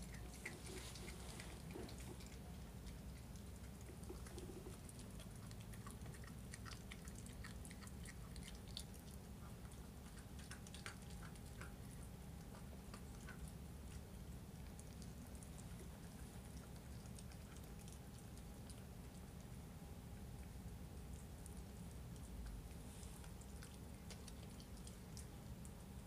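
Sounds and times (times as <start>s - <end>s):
puppy chewing on bone: 0.0s - 26.0s.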